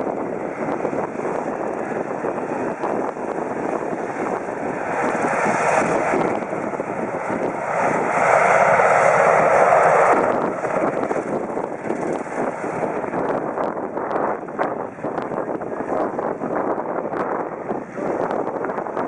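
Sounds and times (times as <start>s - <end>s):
helicopter rotor and turbine: 0.0s - 19.0s.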